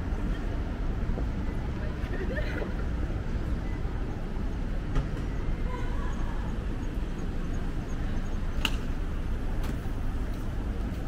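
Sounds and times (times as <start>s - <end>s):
faint voices of passers-by: 0.0s - 11.0s
traffic rumble: 0.0s - 11.0s.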